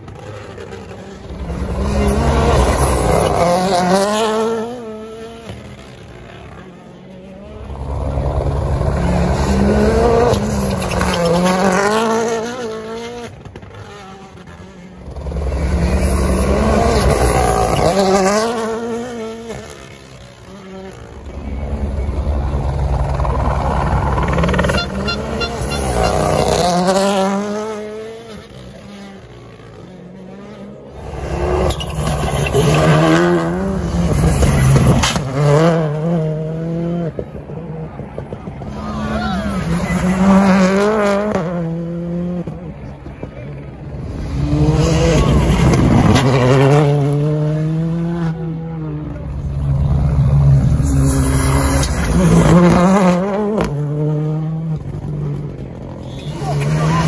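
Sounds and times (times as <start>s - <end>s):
rally cars passing at speed: 0.0s - 57.0s.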